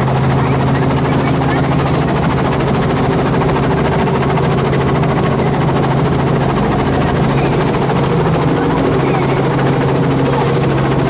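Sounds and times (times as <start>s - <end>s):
helicopter rotor chop: 0.0s - 11.0s
low engine hum: 0.0s - 11.0s.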